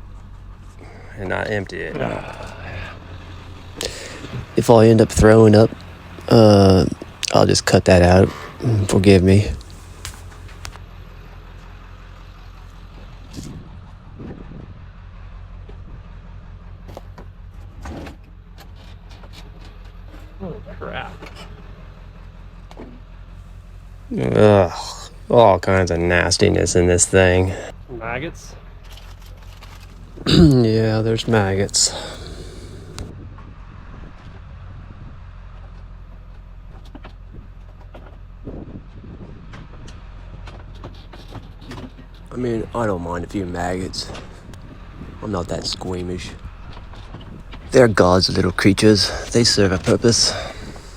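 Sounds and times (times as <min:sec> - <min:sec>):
vehicle engine idling: 0:00.0 - 0:50.9.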